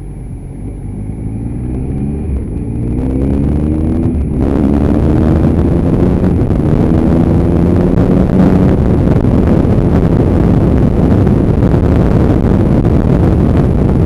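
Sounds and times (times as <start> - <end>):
motorcycle engine accelerating: 0.0 - 14.0
wind noise on microphone: 0.0 - 14.0.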